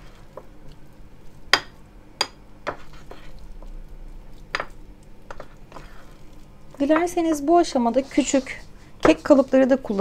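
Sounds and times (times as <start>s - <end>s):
utensil stirring thick batter: 0.0s - 10.0s.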